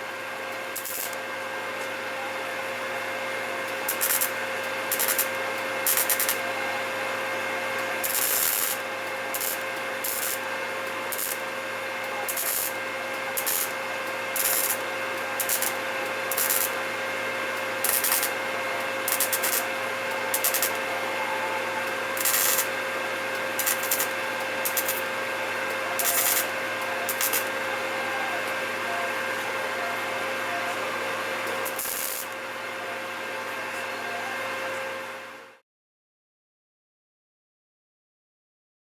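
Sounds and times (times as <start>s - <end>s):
workshop machine humming: 0.0s - 35.6s.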